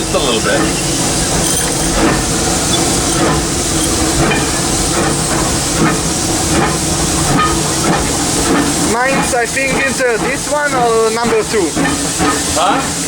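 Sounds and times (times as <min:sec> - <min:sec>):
loud steam hiss: 0:00.0 - 0:13.0.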